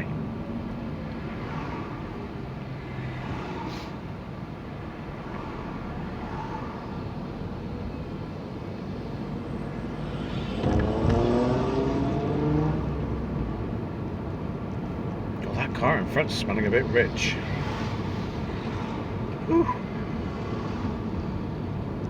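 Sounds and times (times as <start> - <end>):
car engine: 0.0 - 22.0
road noise inside car cabin: 0.0 - 22.0.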